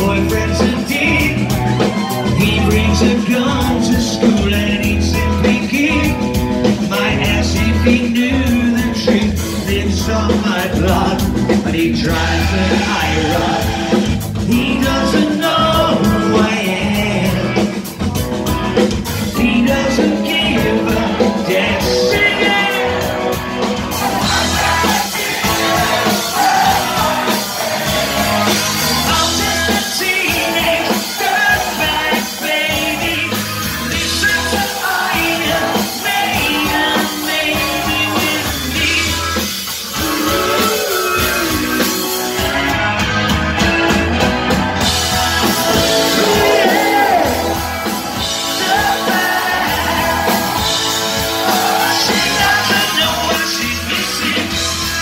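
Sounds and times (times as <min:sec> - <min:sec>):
person singing: 0:00.0 - 0:42.7, 0:45.2 - 0:55.0
live rock band playing: 0:00.0 - 0:55.0.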